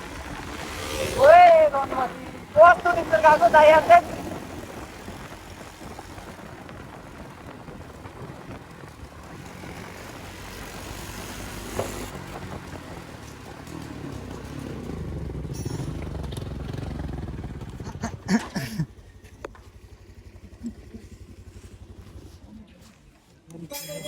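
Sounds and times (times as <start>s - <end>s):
motorcycle engine running: 0.0s - 23.4s.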